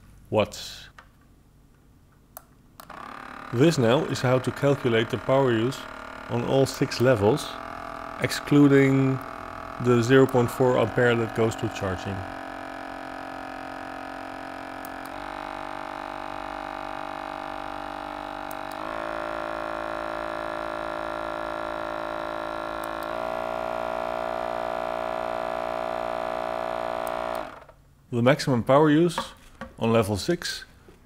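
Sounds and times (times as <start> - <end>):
massage gun motor humming: 2.8 - 27.8.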